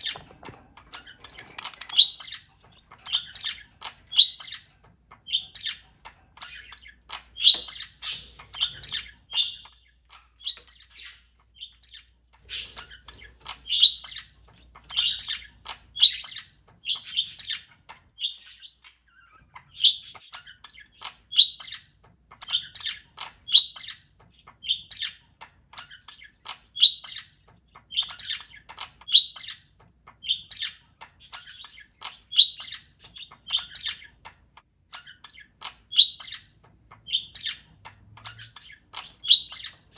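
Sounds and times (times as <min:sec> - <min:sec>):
parakeet chirping: 0:00.0 - 0:39.9.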